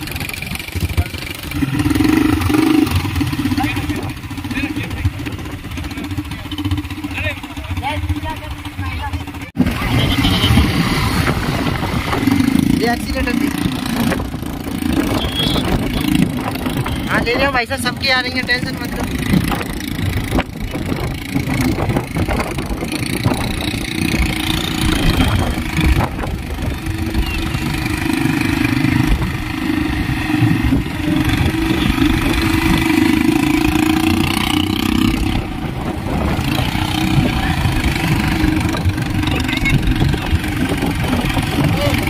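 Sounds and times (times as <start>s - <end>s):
quad bike engines: 0.0s - 42.0s.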